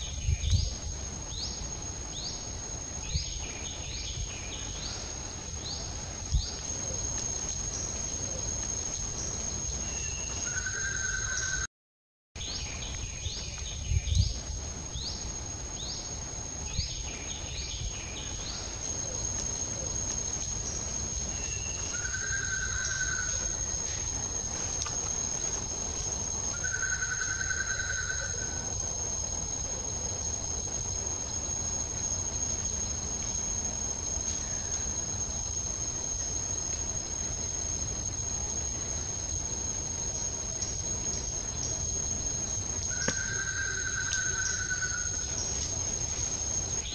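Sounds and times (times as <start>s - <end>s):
high-pitched insect drone: 0.0s - 11.7s, 12.5s - 46.9s.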